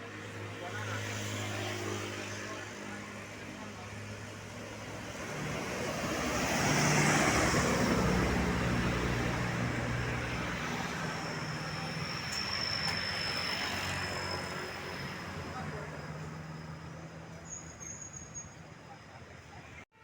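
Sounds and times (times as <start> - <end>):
bus driving past: 0.0 - 19.8.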